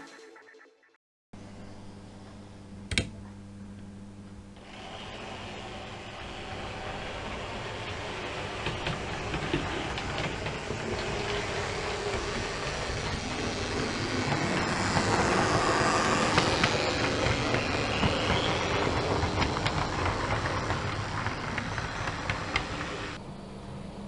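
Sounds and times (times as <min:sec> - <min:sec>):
train running on track: 0:04.6 - 0:24.0.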